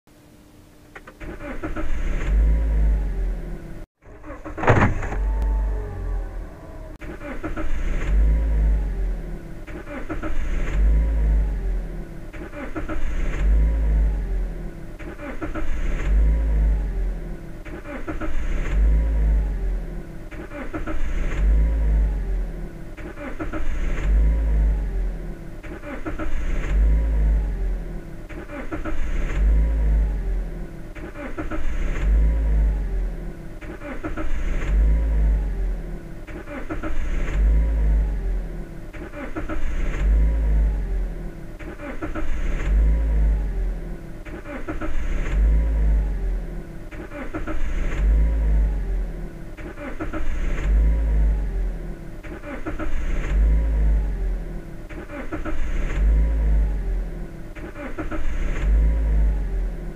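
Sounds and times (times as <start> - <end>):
car engine starting and revving: 0.9 - 59.9.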